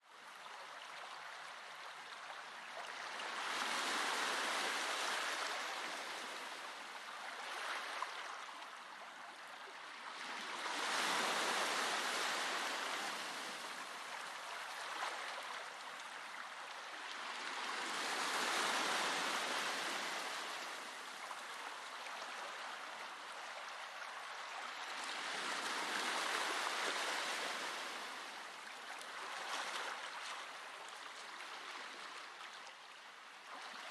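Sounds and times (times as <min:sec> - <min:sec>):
ocean waves breaking on shore: 0:03.0 - 0:08.3, 0:09.8 - 0:32.3.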